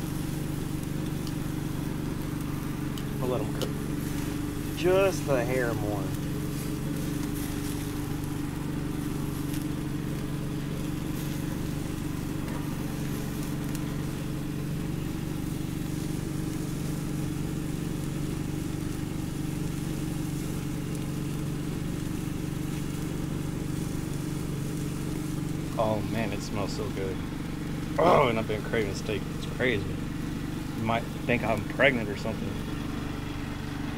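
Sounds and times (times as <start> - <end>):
engine running steadily: 0.0 - 33.9
meat hissing on charcoal grill: 0.0 - 33.9.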